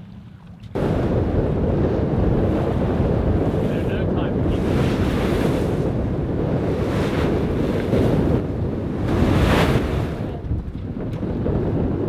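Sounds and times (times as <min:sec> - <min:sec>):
water rushing along hull: 0:00.0 - 0:12.0
wind buffeting microphone: 0:00.6 - 0:12.0.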